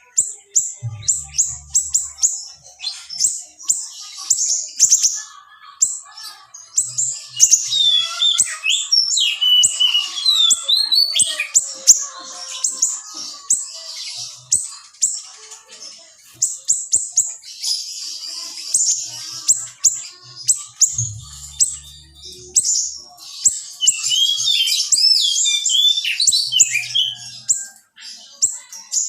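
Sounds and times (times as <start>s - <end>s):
songbird chirping and twittering: 0.0s - 29.0s.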